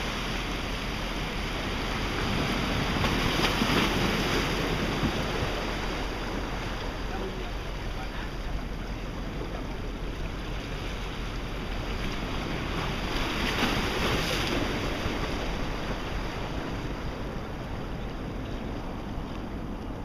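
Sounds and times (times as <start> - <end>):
sea waves washing ashore: 0.0 - 20.0
wind buffeting microphone: 0.0 - 20.0.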